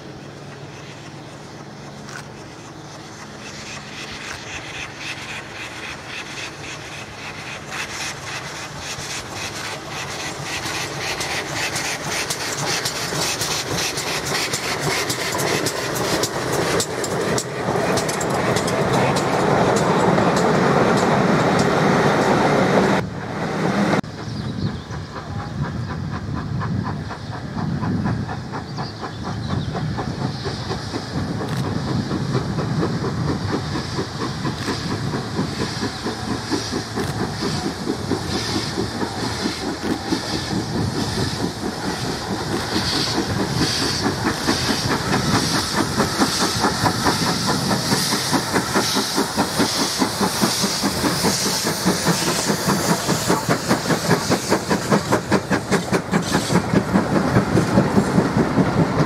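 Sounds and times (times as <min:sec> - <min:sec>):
steam locomotive passing: 0:00.0 - 0:59.0
train clicking and rumble: 0:00.0 - 0:59.0.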